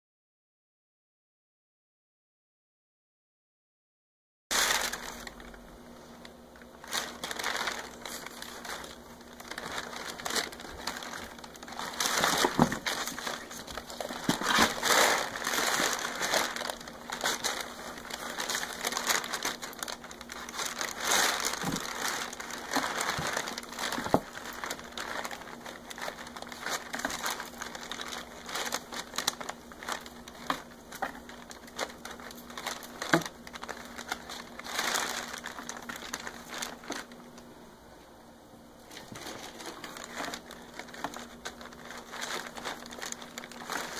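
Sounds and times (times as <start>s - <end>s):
packing paper crinkling: 4.5s - 37.5s, 38.9s - 43.9s.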